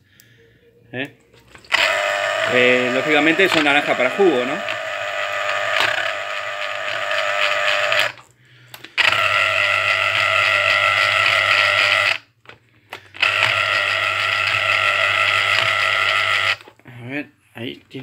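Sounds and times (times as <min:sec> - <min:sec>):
juicer motor whining: 0:01.3 - 0:12.2, 0:13.0 - 0:16.7.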